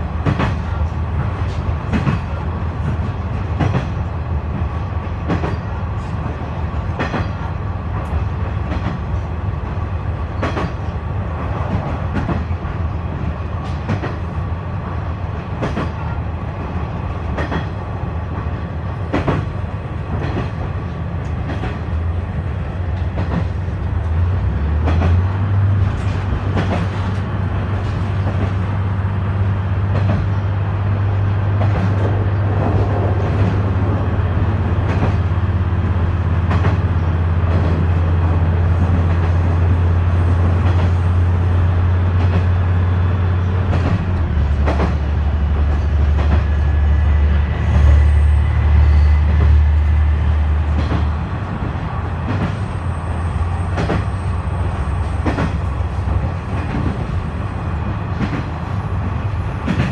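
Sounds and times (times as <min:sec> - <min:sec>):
diesel engine and wheels drone: 0:00.0 - 0:59.9
rail joints clacking: 0:00.0 - 0:59.9.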